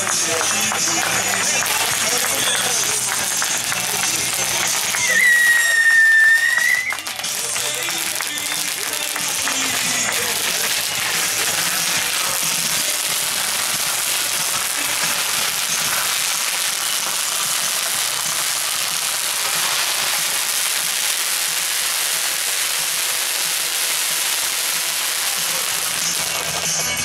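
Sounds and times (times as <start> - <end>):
firework hissing crackle: 0.0 - 27.0.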